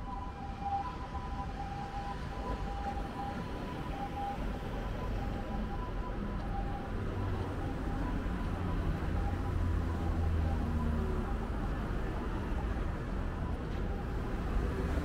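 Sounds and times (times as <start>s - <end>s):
city street traffic: 0.0s - 15.0s
faint two-tone siren: 0.0s - 15.0s.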